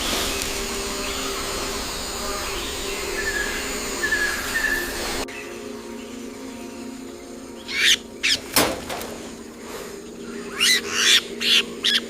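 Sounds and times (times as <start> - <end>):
bird calls: 0.0 - 12.0
low music drone: 0.0 - 12.0.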